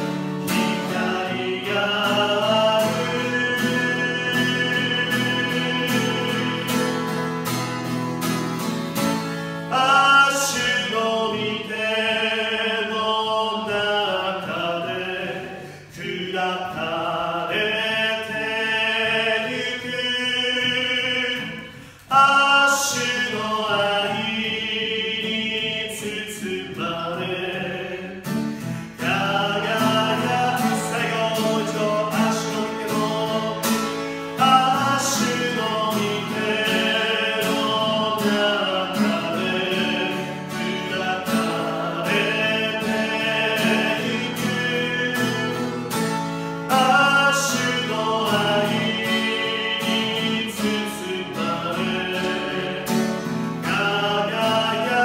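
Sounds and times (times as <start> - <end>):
man singing: 0.0 - 7.6, 9.6 - 55.0
acoustic guitar strumming: 0.0 - 55.0.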